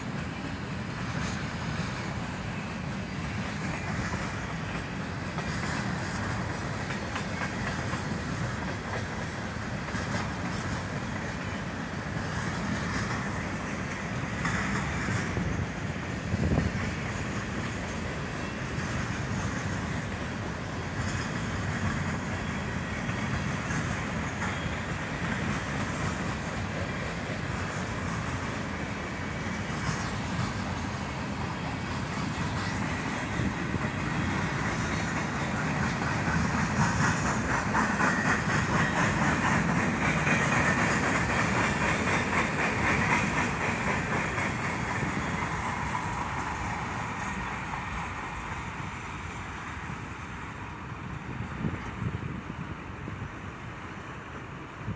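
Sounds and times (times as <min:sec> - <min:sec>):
freight train wheels clattering: 0:00.0 - 0:52.4.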